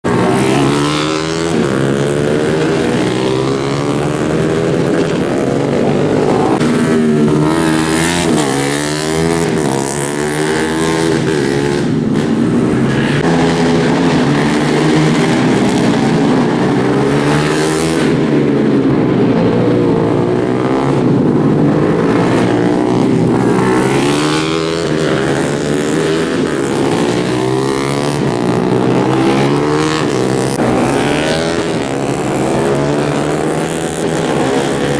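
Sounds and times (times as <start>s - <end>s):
motorcycles racing at full throttle: 0.0s - 34.9s.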